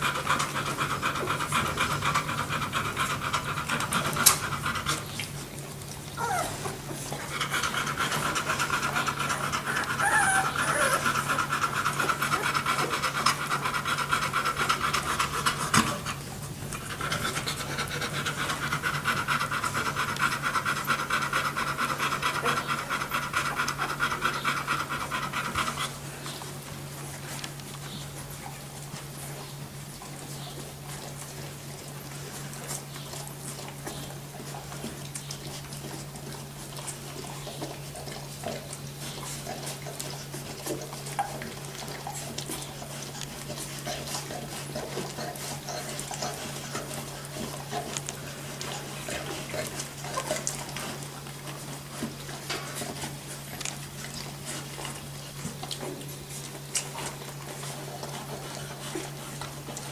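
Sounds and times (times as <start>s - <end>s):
dog panting rapidly: 0.0s - 59.9s.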